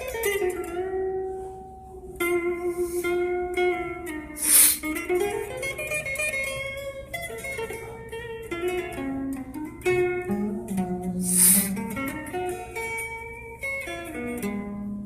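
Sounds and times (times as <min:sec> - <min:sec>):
guitar plucked notes: 0:00.0 - 0:15.0.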